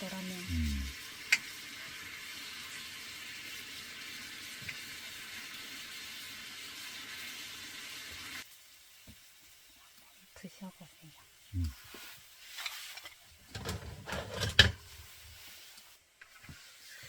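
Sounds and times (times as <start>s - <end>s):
food sizzling in a pan: 0.0s - 13.5s, 14.8s - 17.0s.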